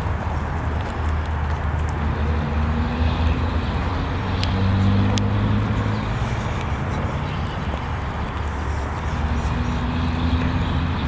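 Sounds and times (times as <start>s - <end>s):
footsteps on gravel: 0.0s - 3.0s, 3.7s - 10.8s
low engine drone: 0.0s - 11.0s.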